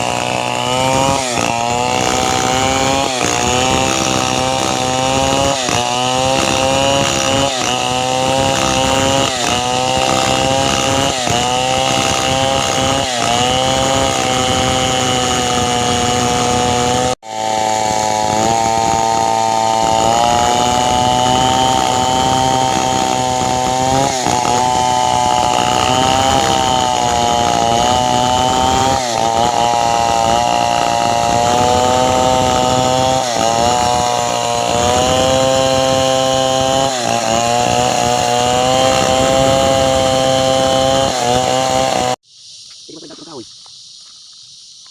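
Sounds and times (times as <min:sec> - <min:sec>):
chainsaw cutting wood: 0:00.0 - 0:42.2.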